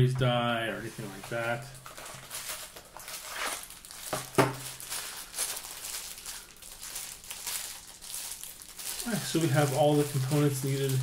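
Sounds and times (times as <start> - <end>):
plastic packet crinkling: 1.3 - 11.0.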